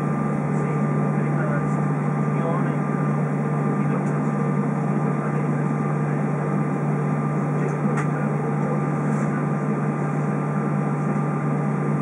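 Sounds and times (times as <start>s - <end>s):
aircraft engines idling: 0.0s - 12.0s.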